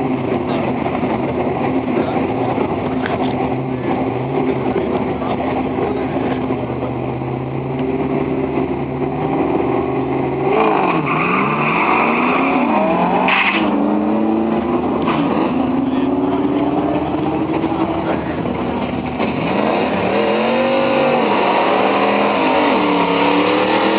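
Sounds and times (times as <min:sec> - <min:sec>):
pickup truck engine revving: 0:00.0 - 0:23.9.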